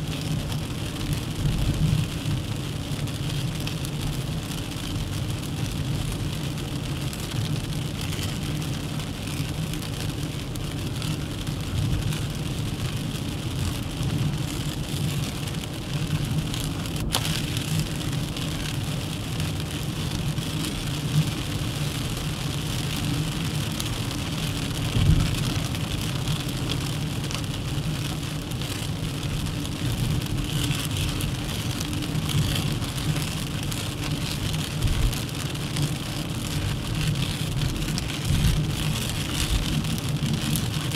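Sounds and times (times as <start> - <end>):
tyre road noise: 0.0 - 40.9.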